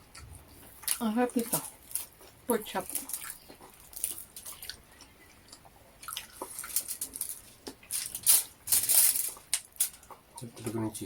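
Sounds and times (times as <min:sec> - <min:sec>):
person chewing fried chicken: 0:00.0 - 0:01.0, 0:01.6 - 0:08.2, 0:09.2 - 0:10.5.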